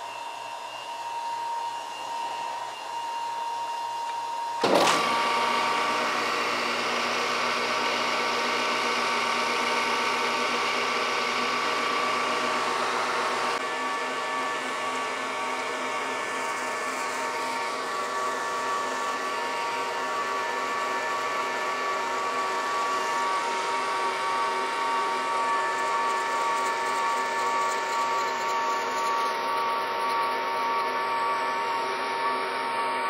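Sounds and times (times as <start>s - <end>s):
grinder whine: 0.0s - 33.0s.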